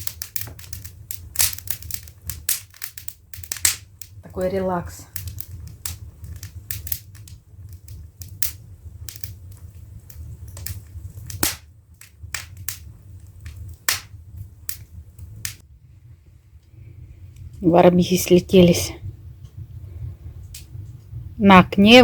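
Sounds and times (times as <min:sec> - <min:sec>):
low steady rumble: 0:00.0 - 0:22.0
wood fire crackling: 0:00.0 - 0:22.0.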